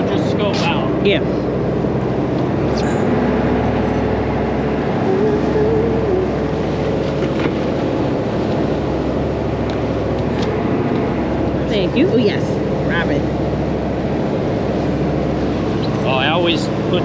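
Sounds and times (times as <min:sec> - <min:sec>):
boat engine humming: 0:00.0 - 0:17.0
water noise: 0:00.0 - 0:17.0
wind: 0:00.0 - 0:17.0.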